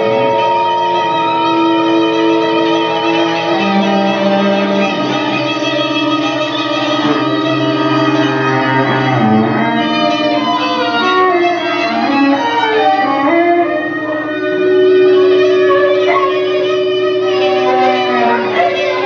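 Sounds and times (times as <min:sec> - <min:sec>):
string trio playing bowed strings: 0:00.0 - 0:19.0.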